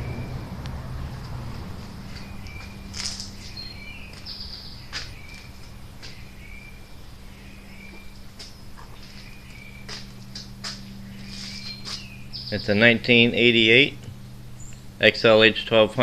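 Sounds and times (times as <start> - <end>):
birds chirping: 0.0 - 16.0
steady low hum: 0.0 - 16.0.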